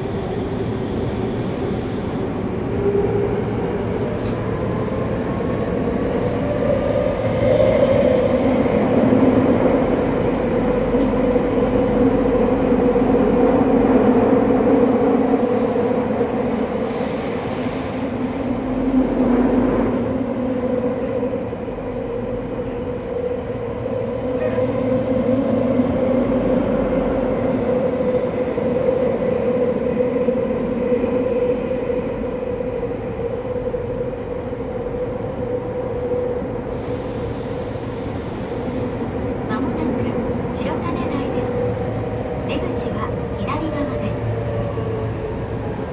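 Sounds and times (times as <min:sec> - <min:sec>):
train motors and wheels hum: 0:00.0 - 0:45.9.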